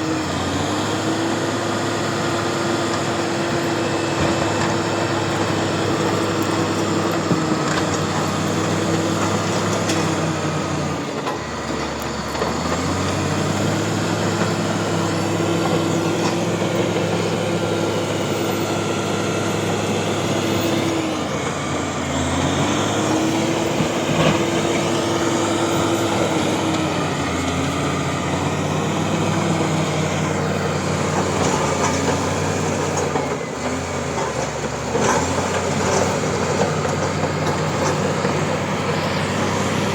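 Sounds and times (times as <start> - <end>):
bulldozer diesel engine labouring: 0.0 - 39.9.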